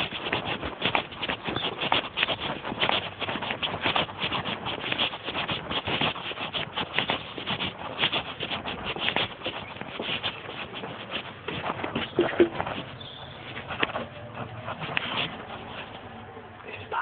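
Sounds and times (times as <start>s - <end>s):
clothing rubbing against microphone: 0.0s - 17.0s.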